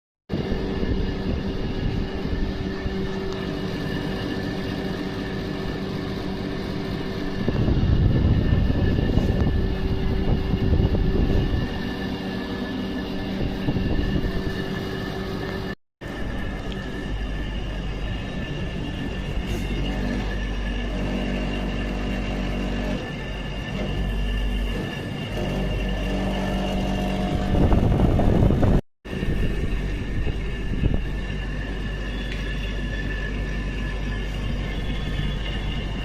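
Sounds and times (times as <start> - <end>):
air conditioner humming: 0.3 - 36.0
rough vibration noise: 0.3 - 36.0.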